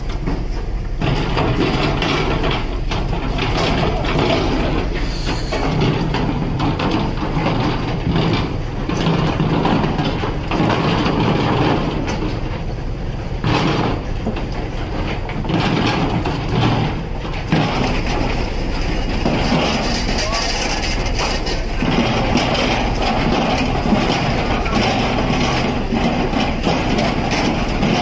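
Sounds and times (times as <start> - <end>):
boat engine rumble: 0.0 - 28.0
fish clattering into metal bins: 0.0 - 28.0.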